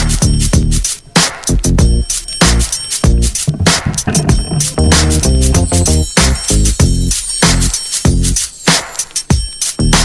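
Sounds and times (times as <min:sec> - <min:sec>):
music with heavy beat and bass: 0:00.0 - 0:10.0.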